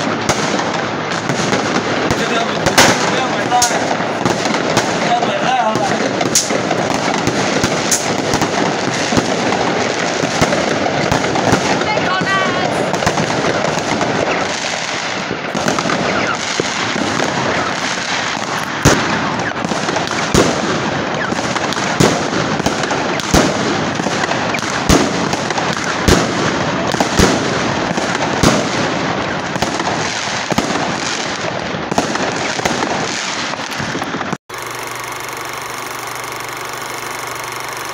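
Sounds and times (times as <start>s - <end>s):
fireworks crackling: 0.0s - 37.9s
loud sharp firework bangs: 0.0s - 37.9s.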